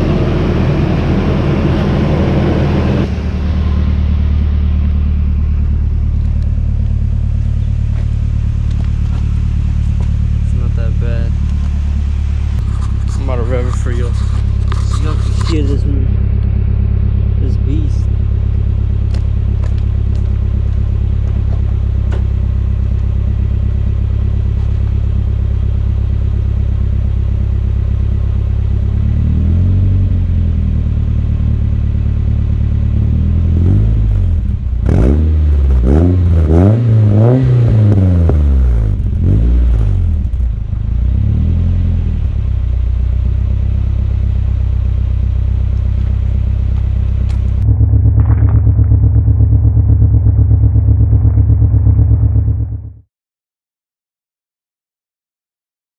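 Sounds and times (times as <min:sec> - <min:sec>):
car engine idling and revving: 0:00.0 - 0:53.1.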